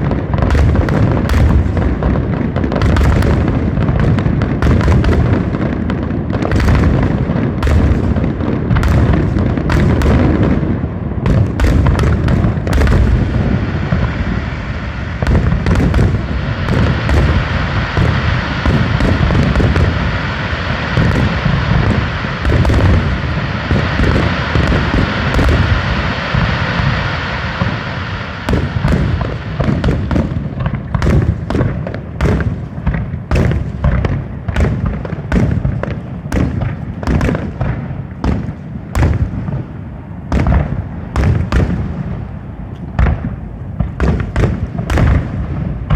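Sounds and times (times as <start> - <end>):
fireworks booming: 0.0 - 45.9
fireworks hissing: 0.0 - 45.9.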